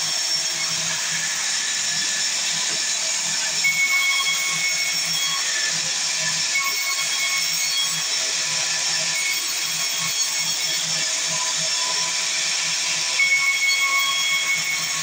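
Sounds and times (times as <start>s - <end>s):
saw cutting through wood: 0.0s - 15.0s
saw squeal: 0.0s - 15.0s.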